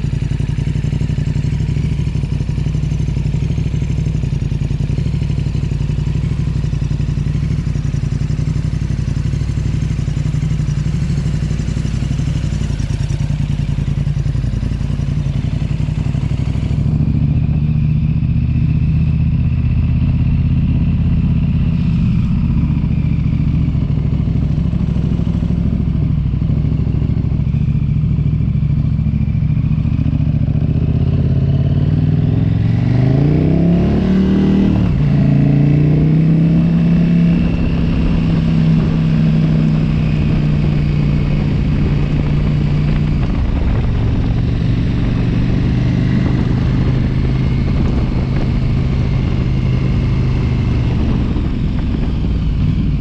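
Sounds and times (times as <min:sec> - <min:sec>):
engine running and revving: 0:00.0 - 0:53.0.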